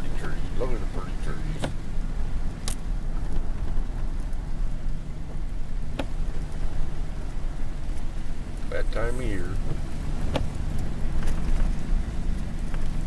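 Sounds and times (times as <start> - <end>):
rain hiss: 0.0 - 13.0
road and engine rumble: 0.0 - 13.0.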